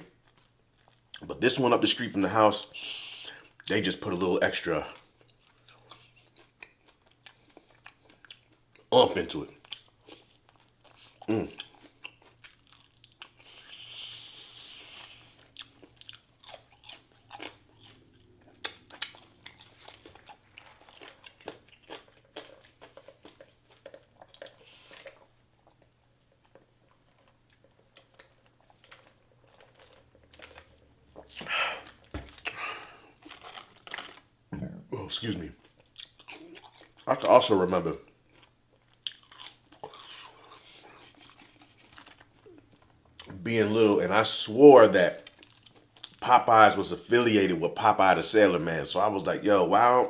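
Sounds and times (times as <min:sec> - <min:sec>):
chewing crunchy food: 0:00.0 - 0:47.5.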